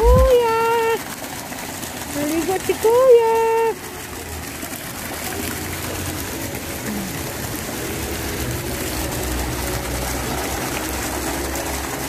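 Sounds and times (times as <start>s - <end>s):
water pouring into pool: 0.0s - 12.0s.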